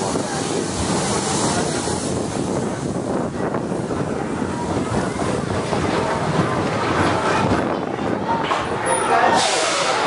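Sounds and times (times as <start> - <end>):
roller coaster cars rolling: 0.0 - 10.0.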